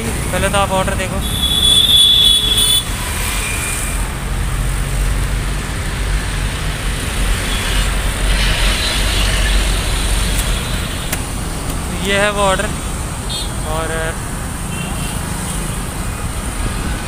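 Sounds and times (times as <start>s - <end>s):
passing cars and trucks: 0.0s - 17.0s.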